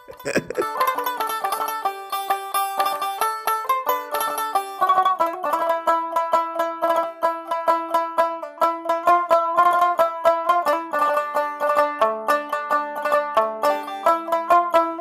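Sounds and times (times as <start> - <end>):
plucked-string picking music: 0.0 - 15.0.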